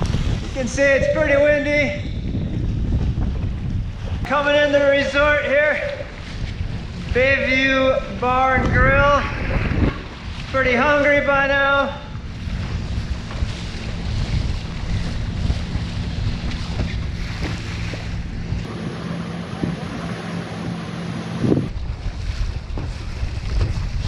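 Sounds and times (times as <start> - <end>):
water splashing along hull: 0.0 - 24.0
wind buffeting microphone: 0.0 - 24.0.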